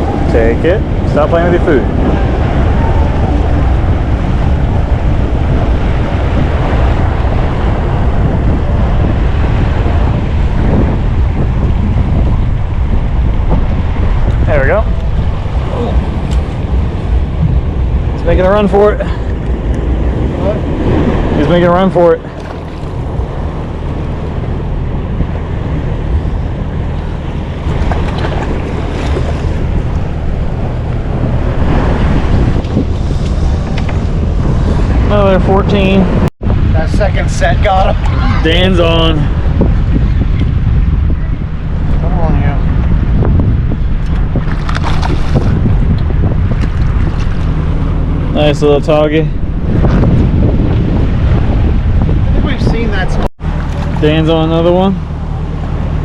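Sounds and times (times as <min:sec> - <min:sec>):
waves and water: 0:00.0 - 0:56.0
wind buffeting microphone: 0:00.0 - 0:56.0.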